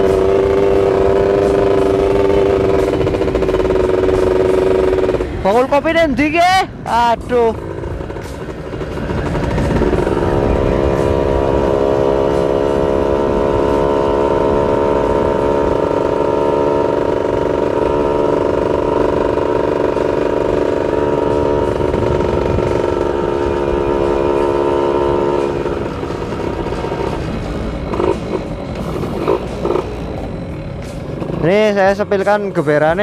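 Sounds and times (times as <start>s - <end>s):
motorcycle engine running: 0.0s - 33.0s
road rumble: 0.0s - 33.0s
wind: 0.0s - 33.0s.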